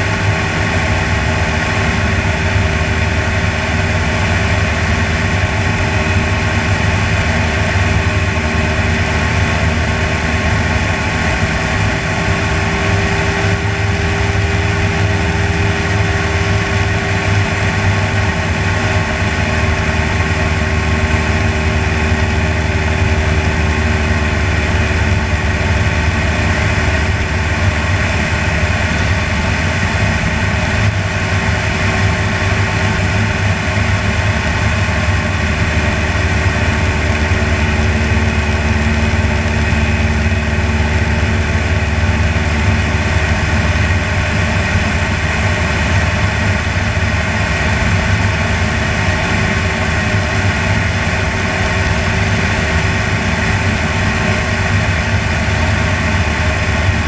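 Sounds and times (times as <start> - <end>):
propeller aircraft engine drone: 0.0 - 57.0.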